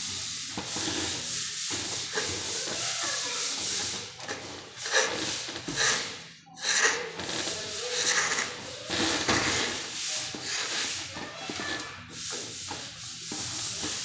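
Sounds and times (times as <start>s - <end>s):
straightedge scraping plaster: 0.3s - 14.0s.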